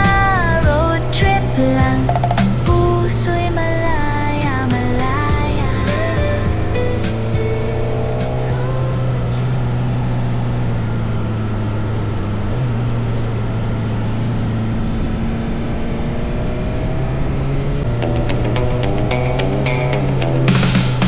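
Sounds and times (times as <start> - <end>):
motorcycle engine drone: 0.0 - 21.0
wind and road noise: 0.0 - 21.0.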